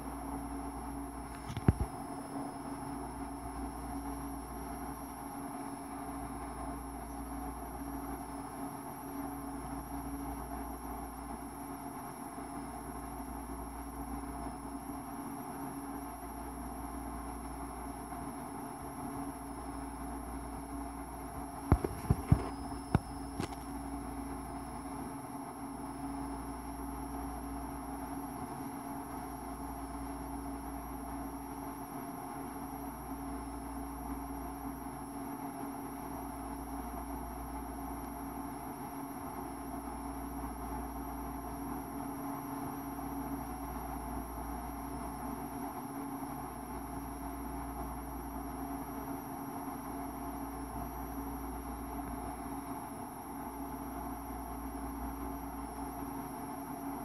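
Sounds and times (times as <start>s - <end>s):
faint high whine: 0.0s - 57.0s
steady background hum: 0.0s - 57.0s.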